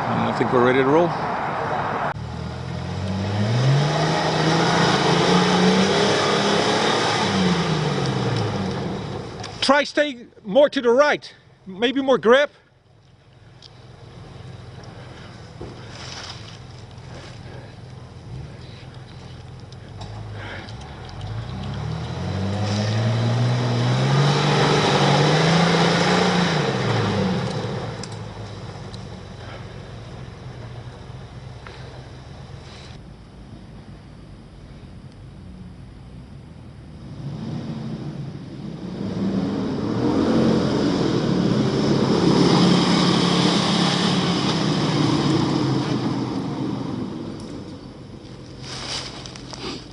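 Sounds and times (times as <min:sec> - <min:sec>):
off-road vehicle engine under load: 0:00.0 - 0:49.9
tyre and trail noise: 0:00.0 - 0:49.9.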